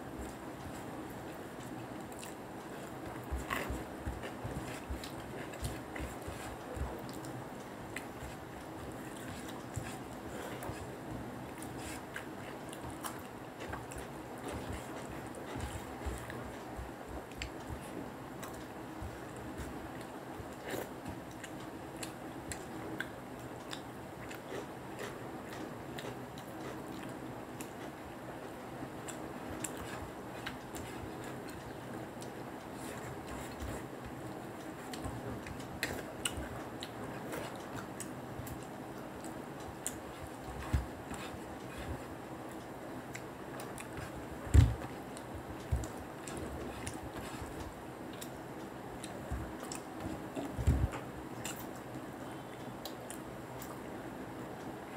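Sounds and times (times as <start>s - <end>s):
low room hum: 0.0s - 54.9s
chewing: 0.2s - 10.9s, 11.5s - 28.0s, 29.0s - 53.8s.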